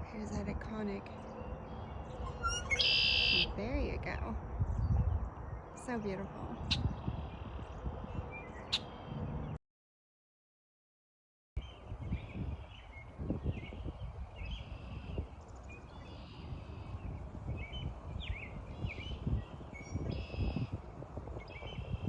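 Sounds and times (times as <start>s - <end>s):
birds chirping and trilling: 0.9s - 9.6s, 11.6s - 20.8s, 21.4s - 22.0s.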